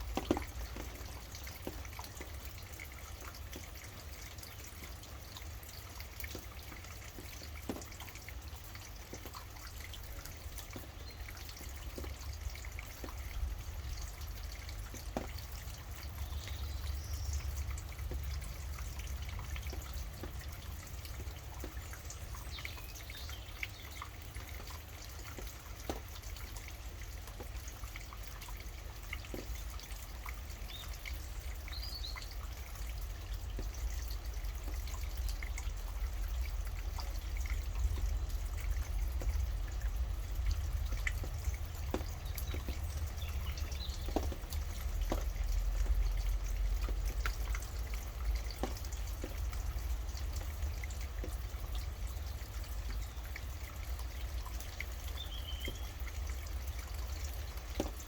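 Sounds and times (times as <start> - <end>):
steady rain: 0.0 - 58.0
water drops dripping: 0.0 - 58.0.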